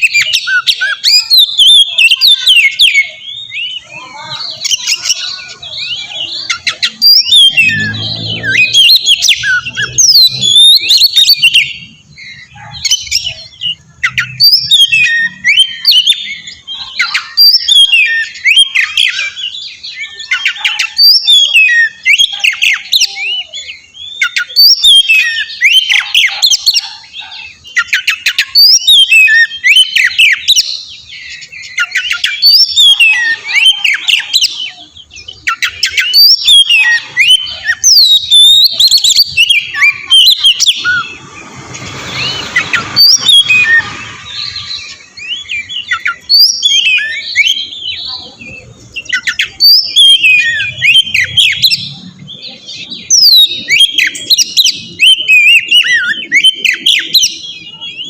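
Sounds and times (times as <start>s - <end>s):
songbird whistling and chattering: 0.0s - 58.0s.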